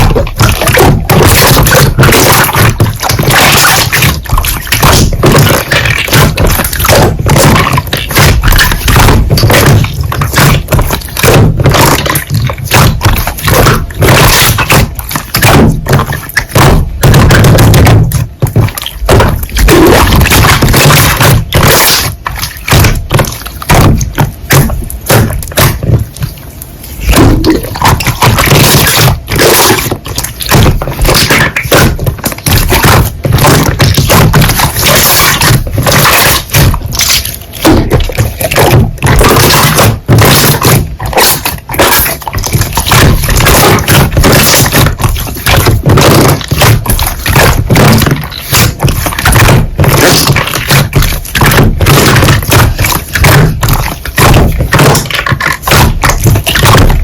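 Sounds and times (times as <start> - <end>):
slime squelching with sticky pops: 0.0 - 57.0.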